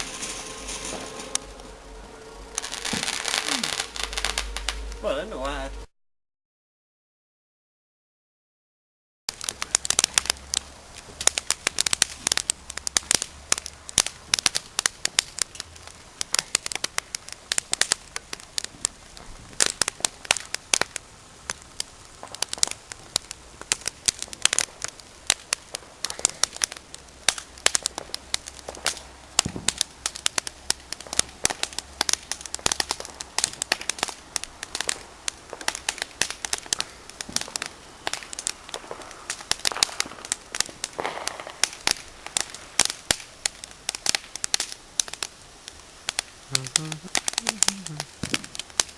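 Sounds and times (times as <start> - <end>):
bonfire crackling and popping: 0.0 - 5.9, 9.3 - 48.9.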